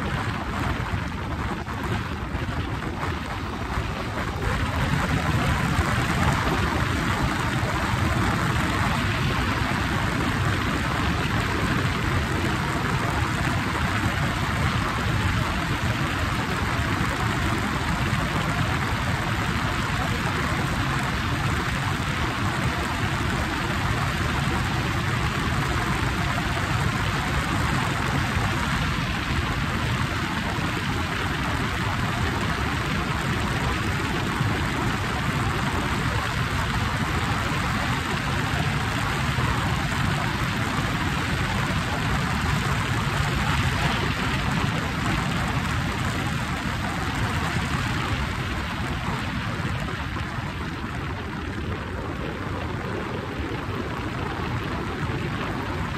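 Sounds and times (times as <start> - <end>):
motorcycle engine drone: 0.0 - 52.8
wind and road noise: 0.0 - 55.9.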